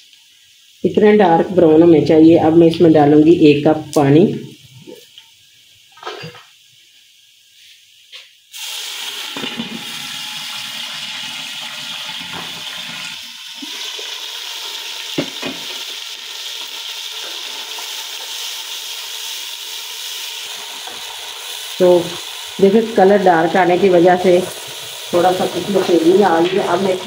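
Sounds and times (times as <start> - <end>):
water sizzling in hot oil: 0.0 - 2.9, 3.9 - 27.0.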